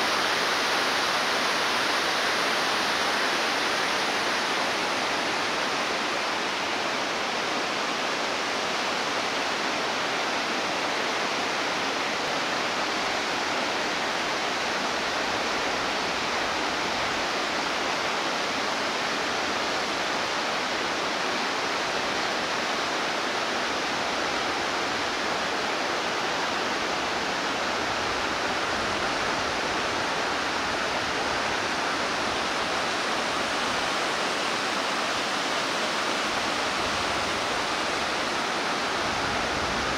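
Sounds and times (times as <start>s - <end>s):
fast-flowing river rushing: 0.0s - 39.9s.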